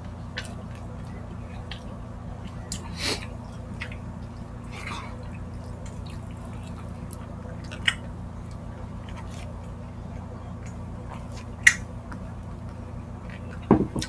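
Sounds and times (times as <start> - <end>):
steady low hum: 0.0 - 14.0
wet chewing and lip-smacking: 0.0 - 14.0.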